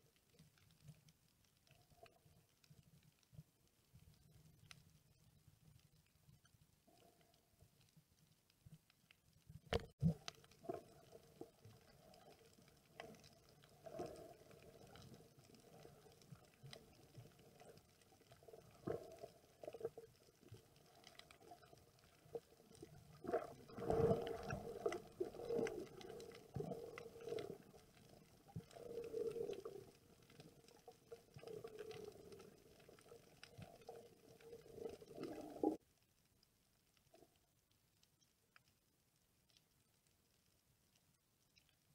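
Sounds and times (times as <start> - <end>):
underwater sloshing and gurgling: 0.0 - 36.0
faint underwater clicks: 0.0 - 41.9.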